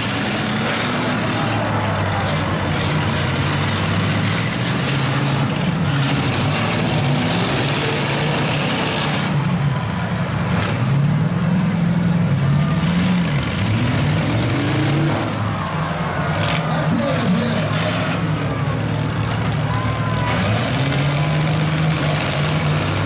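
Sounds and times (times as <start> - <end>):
loud rushing roar: 0.0 - 23.0
truck engines revving: 0.0 - 23.0.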